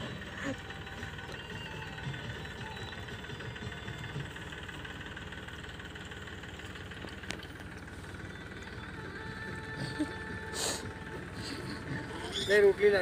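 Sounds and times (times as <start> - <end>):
steady engine hum: 0.0 - 13.0.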